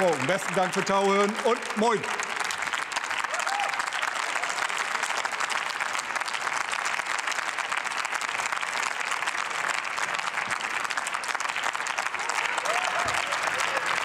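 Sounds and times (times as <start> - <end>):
audience applause: 0.0 - 14.0.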